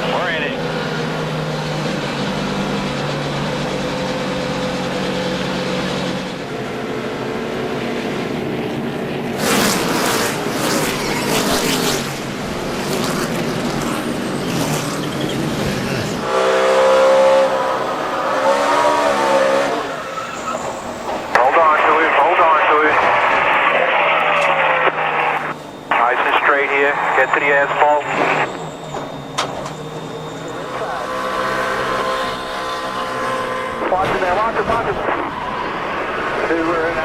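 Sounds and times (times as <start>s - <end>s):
engine pitch rising and falling: 0.0s - 37.0s
race car engines running: 0.0s - 37.0s.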